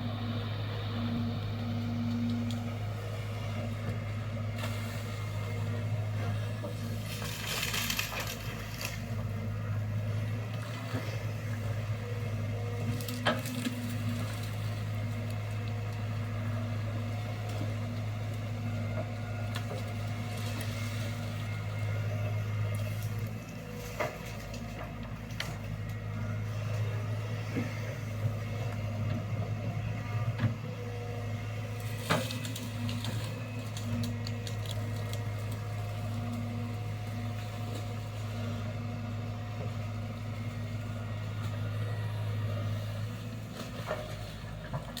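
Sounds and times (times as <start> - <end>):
diesel engine humming: 0.0 - 45.0.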